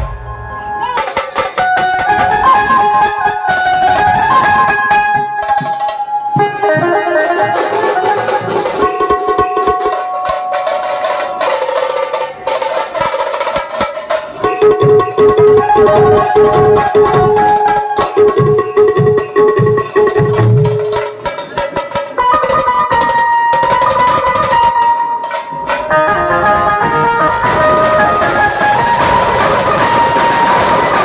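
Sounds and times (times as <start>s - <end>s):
amplified keyed banjo melody: 0.0s - 11.4s, 14.1s - 31.0s
drums: 0.0s - 31.0s.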